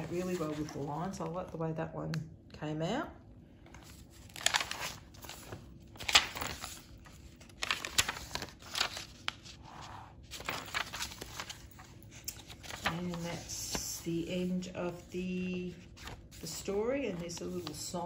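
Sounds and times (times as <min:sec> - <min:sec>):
paper pages rustling: 0:00.0 - 0:01.3, 0:03.6 - 0:18.0.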